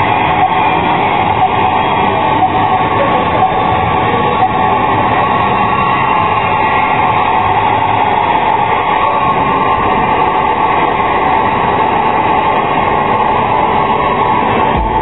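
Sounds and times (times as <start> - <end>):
busy exhibition hall din: 0.0 - 15.0.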